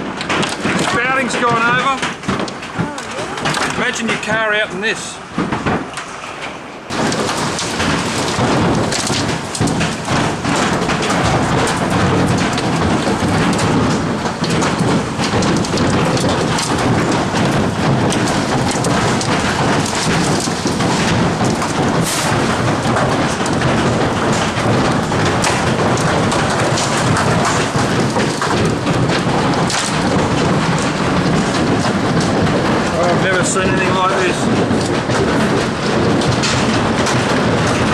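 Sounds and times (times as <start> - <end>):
hailstones striking hard surfaces: 0.0 - 6.1, 6.9 - 37.9.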